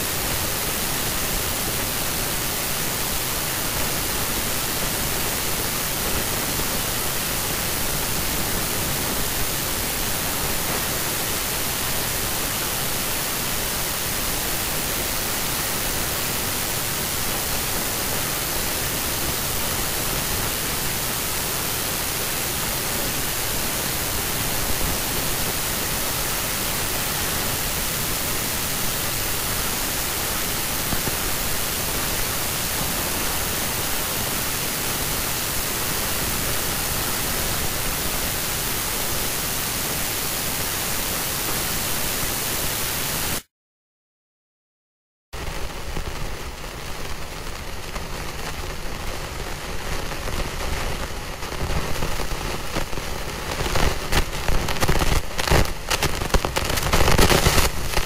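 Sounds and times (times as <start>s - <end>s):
static hiss: 0.0s - 43.5s, 45.4s - 58.0s.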